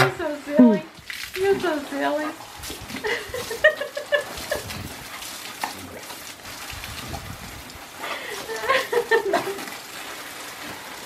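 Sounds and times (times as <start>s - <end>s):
hose spray on brick patio: 0.0s - 11.0s.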